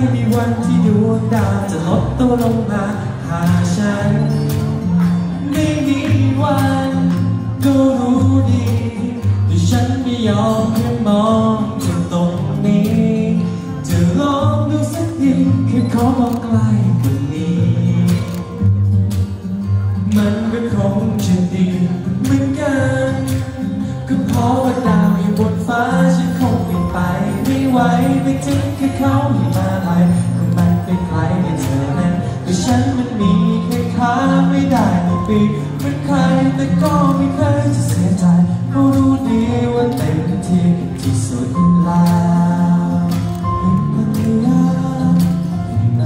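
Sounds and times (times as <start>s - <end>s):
man singing into microphone: 0.0s - 18.8s, 19.9s - 46.0s
backing track with bass and beat: 0.0s - 46.0s.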